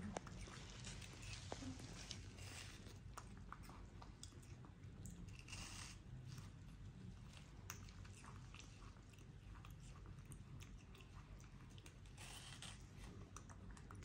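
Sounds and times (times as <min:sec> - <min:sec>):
monkey chewing wet smacking: 0:00.0 - 0:14.0.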